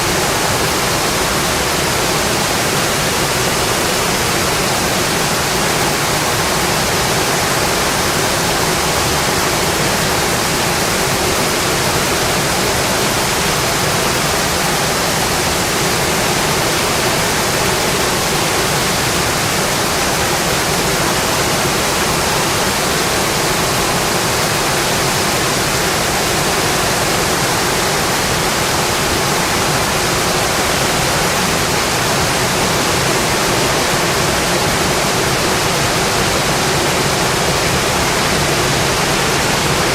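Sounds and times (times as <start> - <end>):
rain on a windowpane: 0.0 - 39.9.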